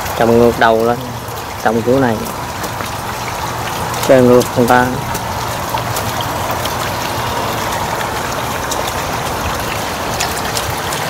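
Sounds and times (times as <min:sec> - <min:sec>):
fountain water trickling: 0:00.0 - 0:11.0.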